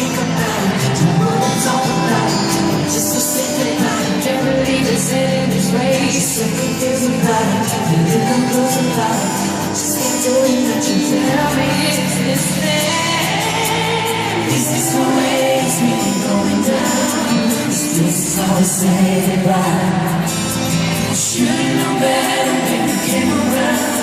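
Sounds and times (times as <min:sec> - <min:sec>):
live pop band with singing: 0:00.0 - 0:24.0.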